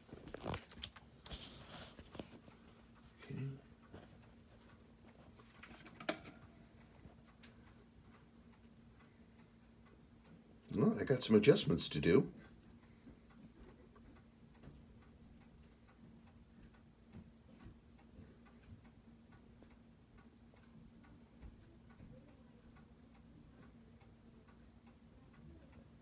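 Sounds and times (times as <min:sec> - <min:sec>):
low steady hum: 0:00.0 - 0:26.0
watch ticking: 0:00.0 - 0:26.0.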